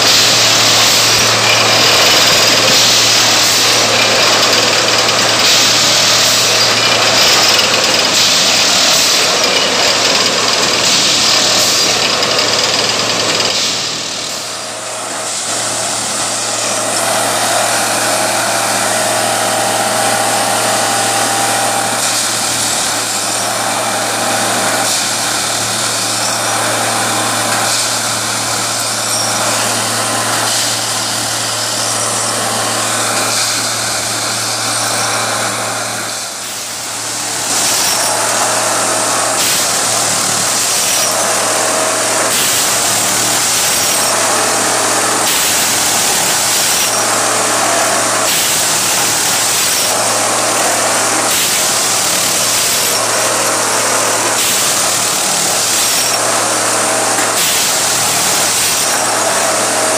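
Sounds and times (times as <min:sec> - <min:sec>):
tamping machine mechanical din: 0:00.0 - 0:59.9.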